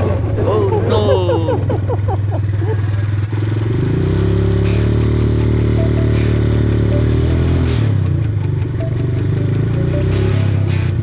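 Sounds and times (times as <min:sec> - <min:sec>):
atv engine running: 0:01.6 - 0:11.0.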